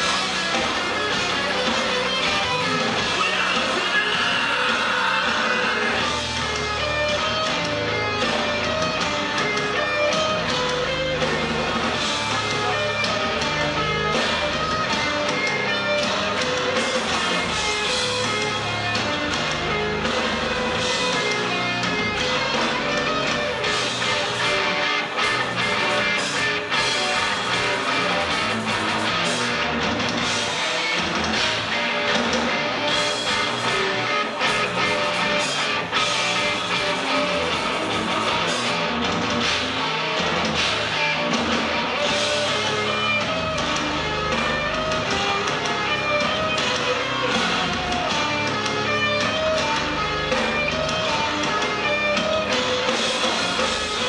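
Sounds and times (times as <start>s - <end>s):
bass guitar: 0.0s - 54.0s
distorted electric guitar chords: 0.0s - 54.0s
noise-rock band playing: 0.0s - 54.0s.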